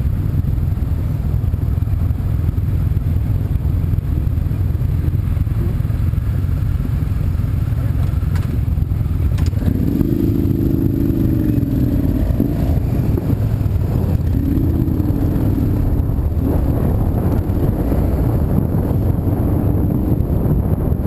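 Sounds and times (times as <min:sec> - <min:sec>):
engine tone: 0:00.0 - 0:21.0
vehicle driving rumble: 0:00.0 - 0:21.0
wind on microphone: 0:00.0 - 0:21.0.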